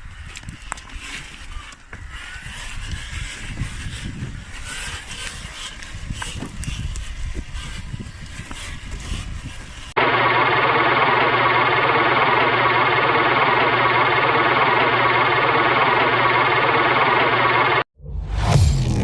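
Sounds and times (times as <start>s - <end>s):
rc truck low rumble: 2.6s - 19.0s.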